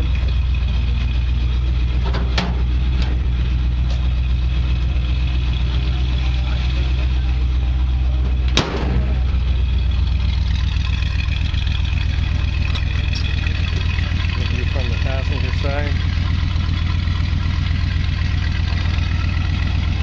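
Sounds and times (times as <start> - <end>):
engine idling low and deep: 0.0 - 20.0.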